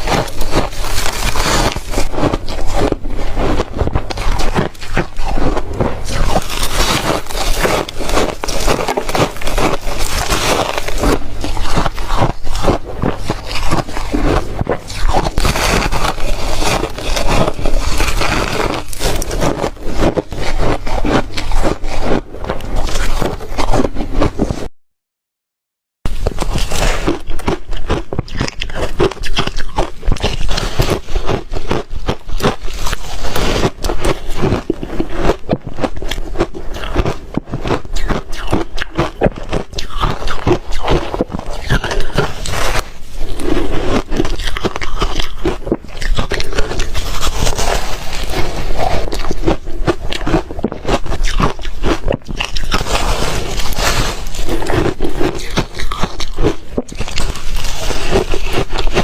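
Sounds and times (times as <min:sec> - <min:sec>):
crunching and chewing ice: 0:00.0 - 0:24.7, 0:26.1 - 0:59.0.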